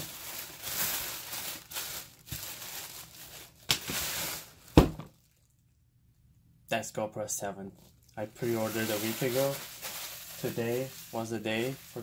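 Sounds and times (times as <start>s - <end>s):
packaging crinkling and rustling: 0.0s - 5.5s, 7.8s - 12.0s.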